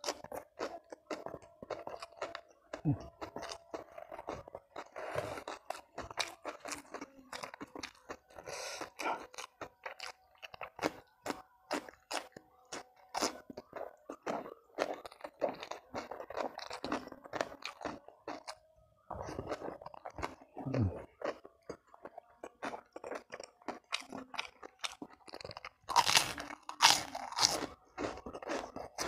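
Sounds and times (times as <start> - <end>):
person munching crunchy food: 0.0 - 29.0.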